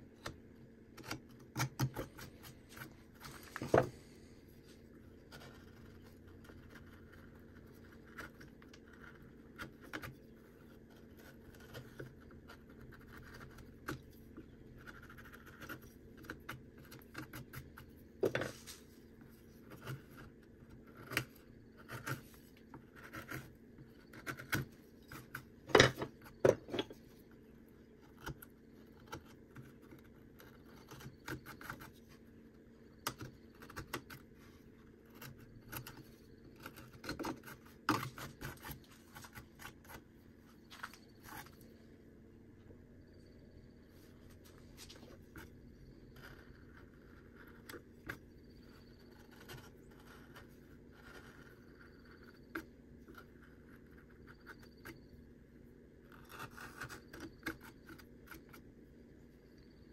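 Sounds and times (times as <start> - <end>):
knife carving bark: 0.1 - 41.9, 43.2 - 59.9.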